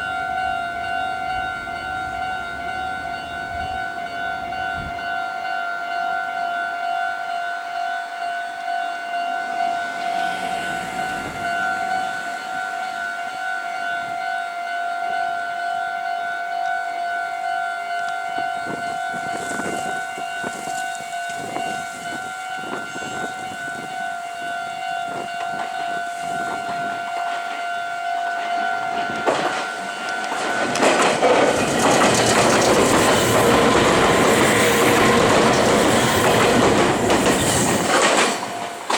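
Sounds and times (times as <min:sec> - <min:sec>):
wheel clatter on rail joints: 0:00.0 - 0:05.6, 0:09.4 - 0:14.6, 0:18.0 - 0:38.9
rail clicks: 0:00.0 - 0:06.5, 0:08.4 - 0:38.9
electric train passing: 0:00.0 - 0:38.9
level-crossing warning bell: 0:00.0 - 0:38.9.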